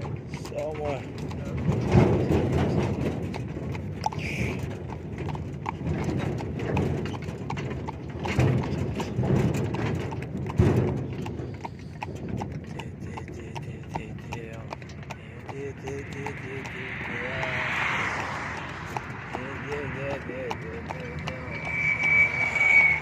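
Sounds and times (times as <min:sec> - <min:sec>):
hooves clip-clopping on hard track: 0:00.0 - 0:23.0
low rumble: 0:01.1 - 0:23.0.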